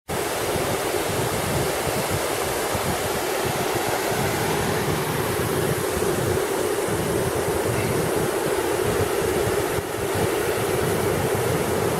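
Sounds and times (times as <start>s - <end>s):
waterfall rushing: 0.1s - 11.9s.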